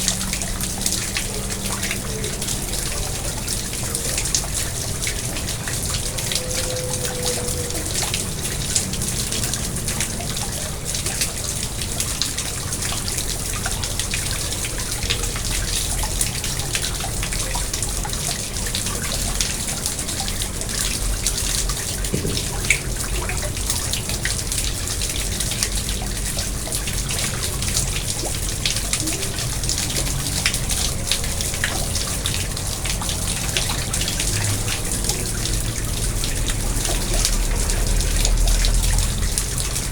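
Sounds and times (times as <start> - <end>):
pond water trickling and splashing: 0.0 - 39.9
water dripping: 0.0 - 39.9.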